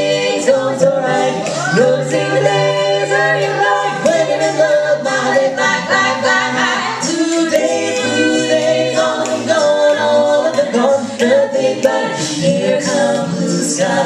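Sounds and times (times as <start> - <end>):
a cappella group singing: 0.0 - 14.0.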